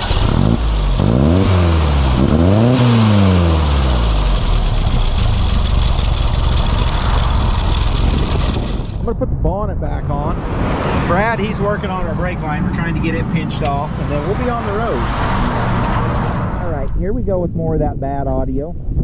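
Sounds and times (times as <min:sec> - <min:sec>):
car engine revving: 0:00.0 - 0:09.2, 0:09.9 - 0:17.3.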